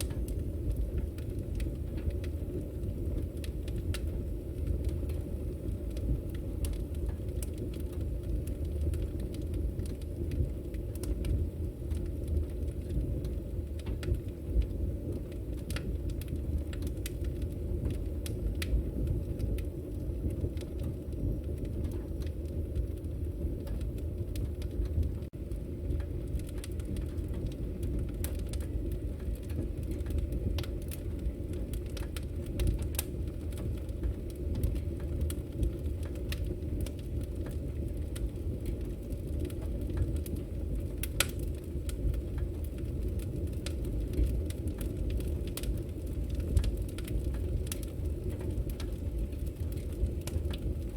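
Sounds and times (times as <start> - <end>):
low rumble of flames: 0.0 - 50.9
wood crackling and popping: 0.0 - 50.9.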